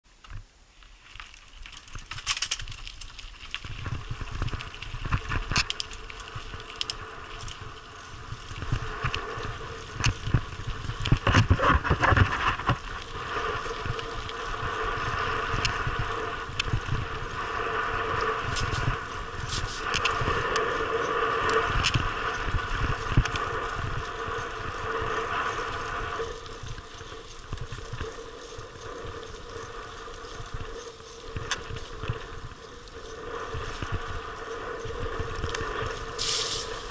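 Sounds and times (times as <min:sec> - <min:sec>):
bike knocking and rattling: 0:00.1 - 0:36.9
bike tyres crunching on gravel: 0:00.1 - 0:36.9.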